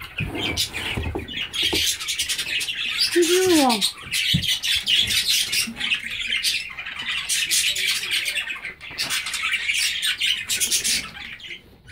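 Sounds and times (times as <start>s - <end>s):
budgerigars chattering: 0.1s - 11.9s.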